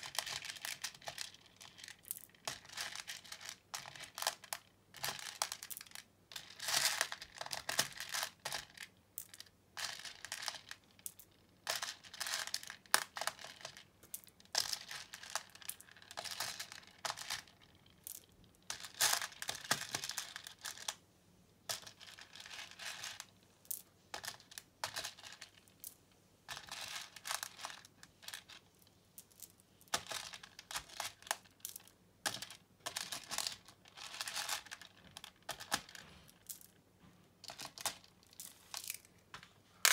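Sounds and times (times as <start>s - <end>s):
plastic beads clattering in a tray: 0.0s - 21.0s, 21.7s - 36.8s, 37.4s - 39.1s.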